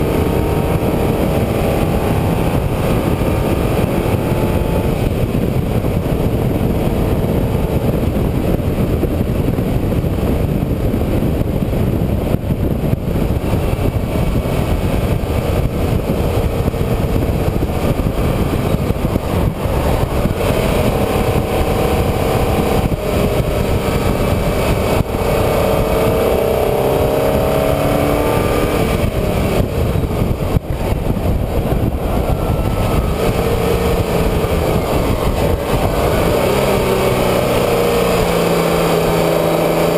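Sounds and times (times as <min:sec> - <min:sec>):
engine revving: 0:00.0 - 0:39.9
wind and road noise rumble: 0:00.0 - 0:39.9.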